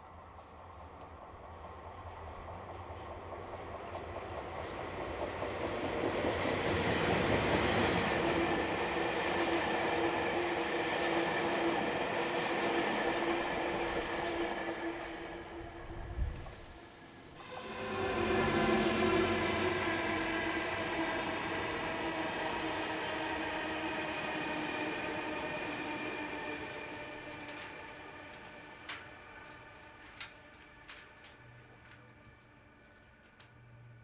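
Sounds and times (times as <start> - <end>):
shunting locomotive hauling railcars: 0.5 - 34.0.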